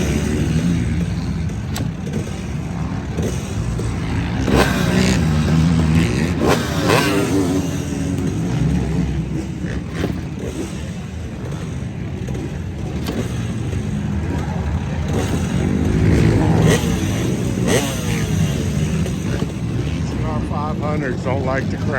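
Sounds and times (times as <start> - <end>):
motorcycle engines revving: 0.0 - 21.9.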